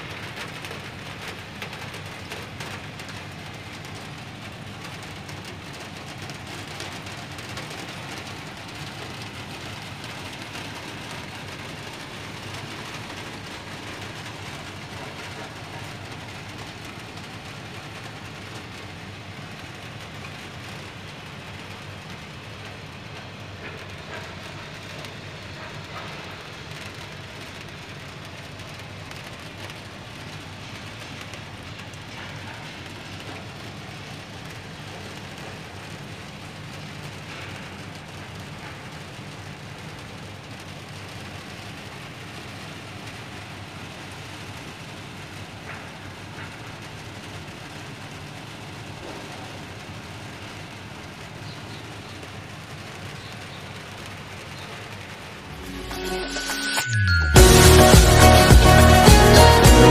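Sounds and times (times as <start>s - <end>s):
rain on a rooftop: 0.0s - 59.9s.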